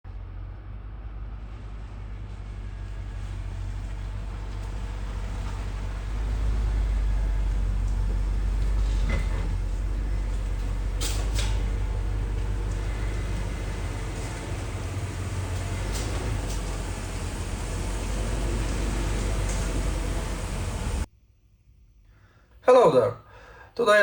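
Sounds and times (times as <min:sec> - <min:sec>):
vehicle engine droning: 0:00.0 - 0:21.1.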